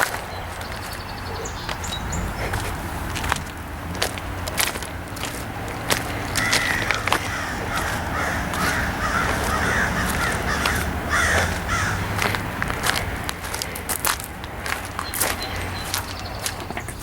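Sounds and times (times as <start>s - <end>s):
harsh bird calls: 0.0s - 17.0s.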